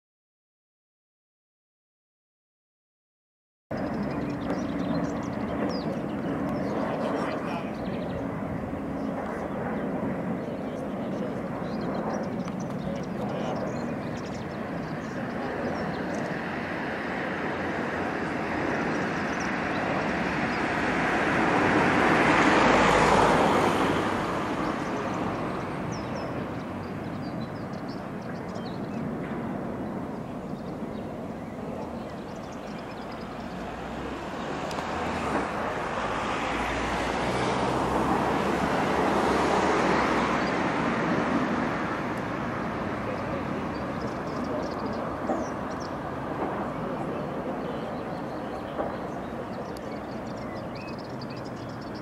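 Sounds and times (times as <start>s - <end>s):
jet engines roaring: 3.7s - 52.0s.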